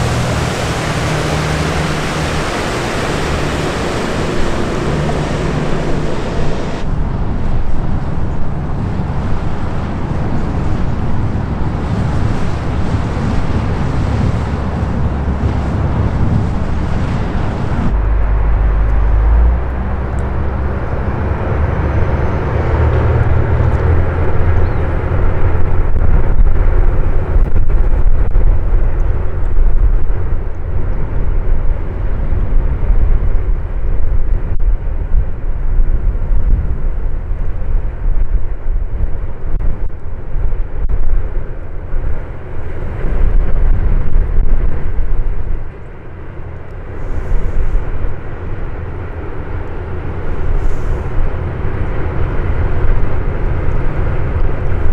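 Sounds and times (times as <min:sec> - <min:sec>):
passing boat engine: 0:00.0 - 0:54.9
ship engine drone: 0:00.0 - 0:54.9.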